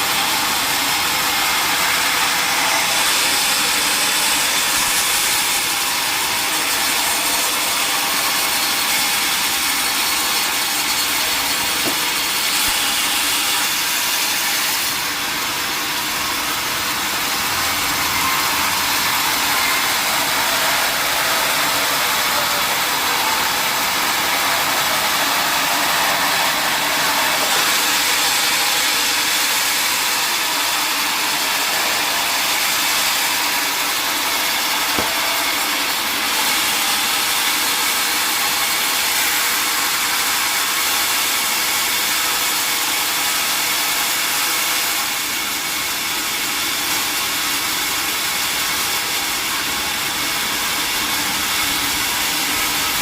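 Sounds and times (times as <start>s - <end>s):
sawmill saw running: 0.0s - 53.0s.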